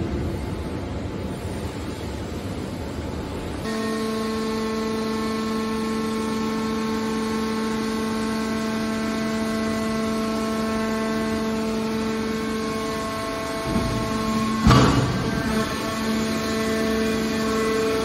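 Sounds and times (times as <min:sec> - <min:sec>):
noisy hiss: 0:00.0 - 0:18.0
hydraulic power unit humming: 0:02.5 - 0:18.0.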